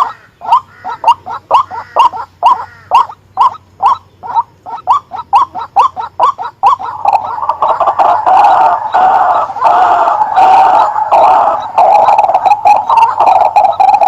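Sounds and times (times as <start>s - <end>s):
waterhen calling: 0.0s - 14.0s.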